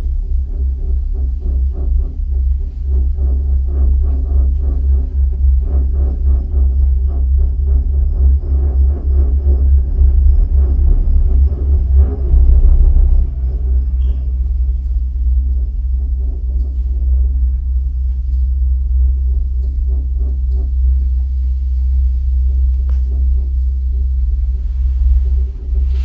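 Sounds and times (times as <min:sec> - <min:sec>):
gondola cabin rumble: 0:00.0 - 0:26.0.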